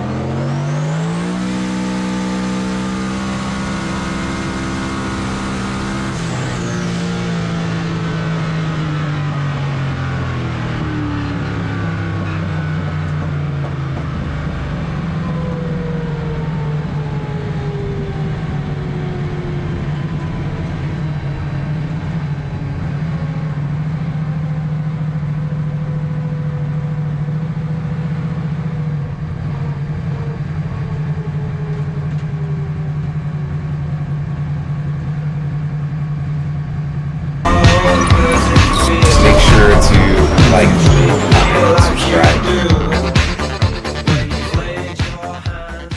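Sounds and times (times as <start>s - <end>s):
vehicle engine running: 0.0s - 45.9s.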